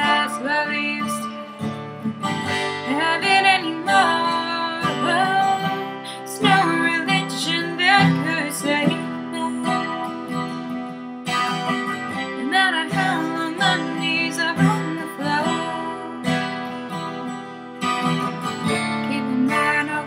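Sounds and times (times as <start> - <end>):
woman singing: 0.0 - 10.5, 12.1 - 16.6, 18.7 - 20.0
strummed acoustic guitar: 0.0 - 20.0.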